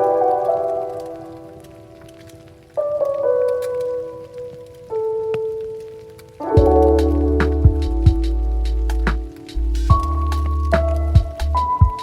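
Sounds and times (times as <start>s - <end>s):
soft instrumental music: 0.0s - 12.0s
wood fire crackling: 0.0s - 12.0s.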